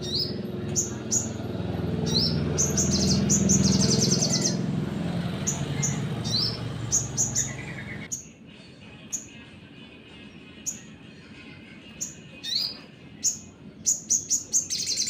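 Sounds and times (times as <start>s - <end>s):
bird chirping and trilling: 0.0s - 9.4s, 10.5s - 11.3s, 11.9s - 15.0s.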